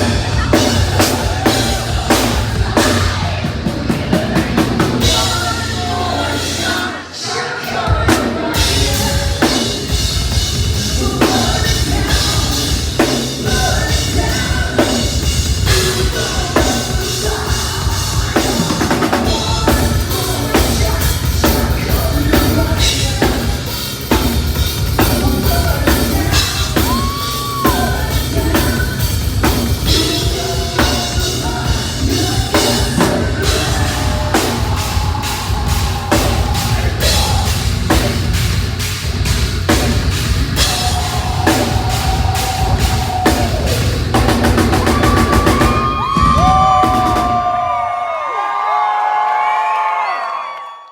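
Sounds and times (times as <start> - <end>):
bass drum: 0.0 - 6.8, 8.0 - 47.6
person singing: 0.0 - 24.3, 25.0 - 38.2, 40.6 - 47.9
heavy metal band playing: 0.0 - 48.0.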